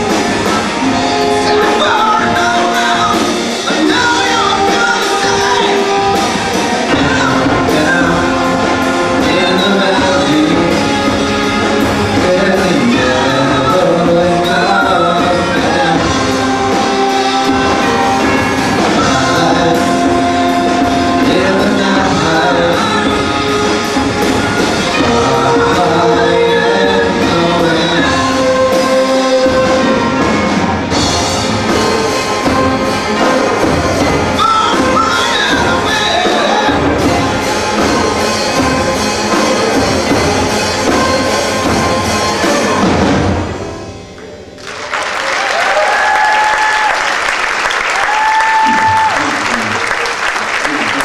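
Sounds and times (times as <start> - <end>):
orchestra playing live: 0.0 - 51.0.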